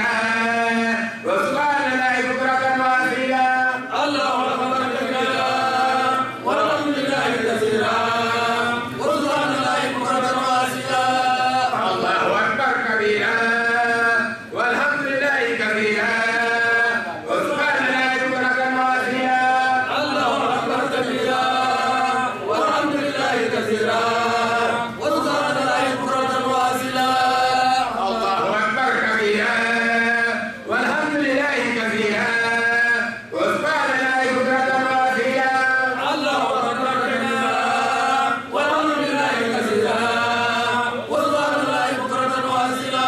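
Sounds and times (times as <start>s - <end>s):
person chanting melodically: 0.0s - 43.0s.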